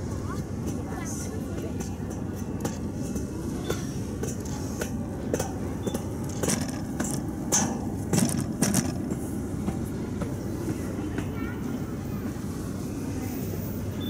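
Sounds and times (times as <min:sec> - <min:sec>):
distant train rumble: 0:00.0 - 0:14.0.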